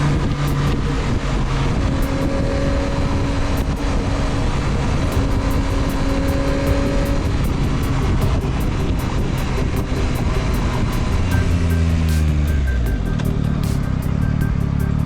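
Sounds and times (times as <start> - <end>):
wind rumble on microphone: 0.0 - 14.6
motorcycle engine running: 0.0 - 15.0.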